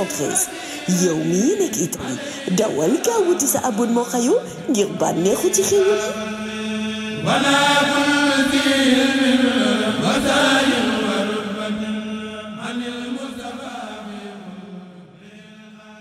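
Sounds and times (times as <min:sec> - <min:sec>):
chanted vocal music: 0:00.0 - 0:16.0.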